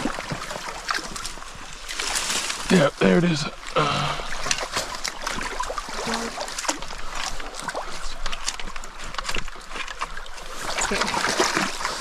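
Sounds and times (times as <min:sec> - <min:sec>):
water splashing in a stream: 0:00.0 - 0:12.0.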